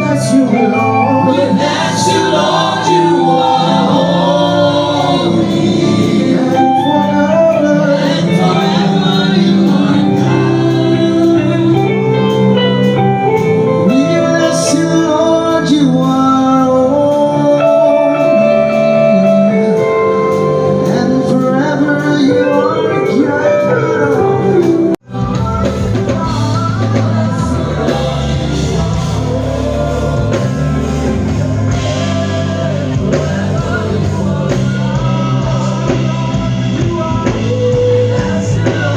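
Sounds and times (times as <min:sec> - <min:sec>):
heavy bass line: 0:00.0 - 0:22.4, 0:23.6 - 0:38.9
choir singing: 0:00.0 - 0:38.9
instrumental backing: 0:00.0 - 0:38.9.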